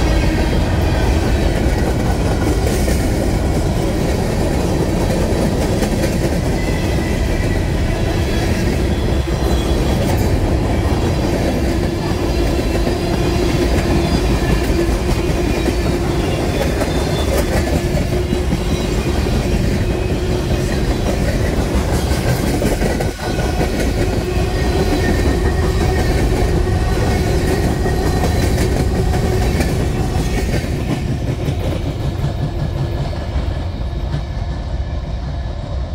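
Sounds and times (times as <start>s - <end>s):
clickety-clack over rail joints: 0.0s - 35.5s
train wheels rumbling on rails: 0.0s - 35.9s.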